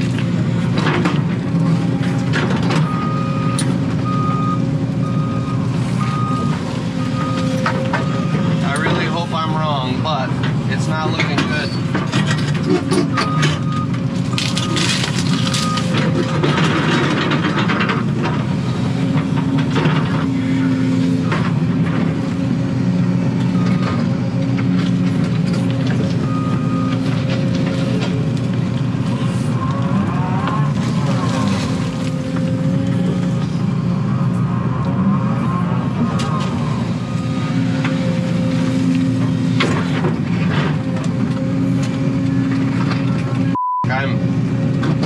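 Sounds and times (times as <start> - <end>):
excavator engine and hydraulics: 0.0 - 45.0.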